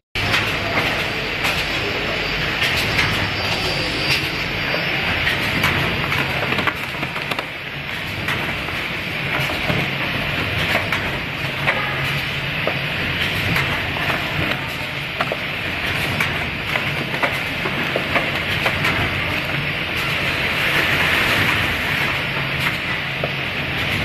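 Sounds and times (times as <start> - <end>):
mechanical clicks and clatter: 0.2 - 24.0
wrapping machine humming: 0.2 - 24.0.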